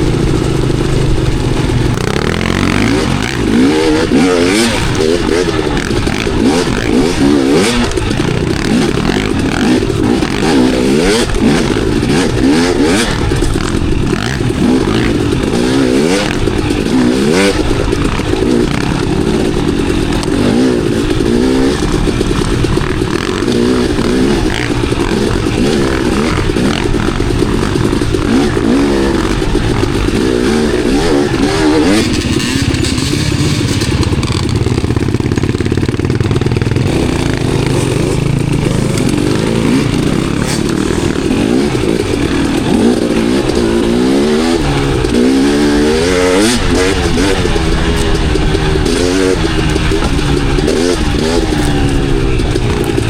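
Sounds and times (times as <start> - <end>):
bike clattering over rough ground: 0.0 - 53.0
dirt bike engine revving: 0.0 - 53.0.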